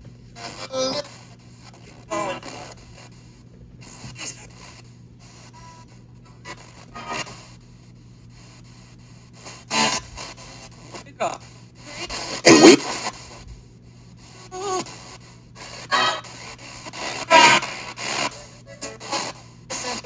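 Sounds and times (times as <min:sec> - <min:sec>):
choppy radio broadcast fragments: 0:00.0 - 0:20.0
radio static hiss: 0:00.0 - 0:20.0.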